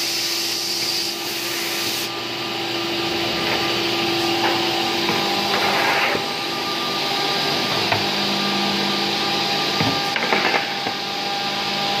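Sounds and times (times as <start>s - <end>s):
machine humming and whining: 0.0s - 12.0s.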